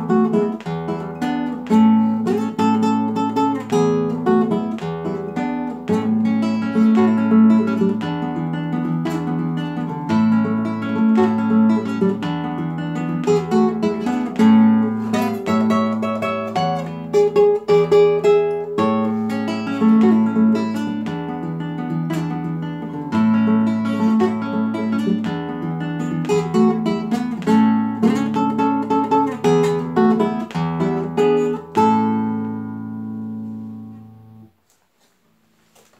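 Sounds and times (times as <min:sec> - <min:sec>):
nylon-string guitar folk tune: 0:00.0 - 0:35.9.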